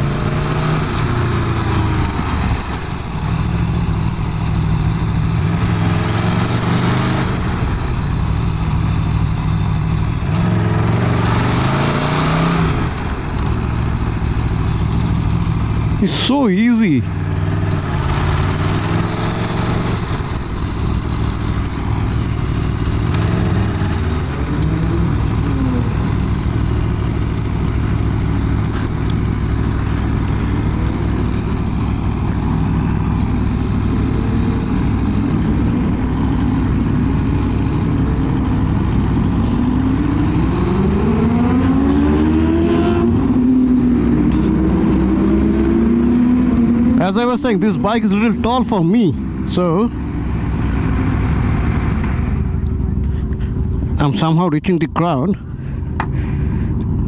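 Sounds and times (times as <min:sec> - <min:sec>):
motorcycle engine revving: 0:00.0 - 0:54.2.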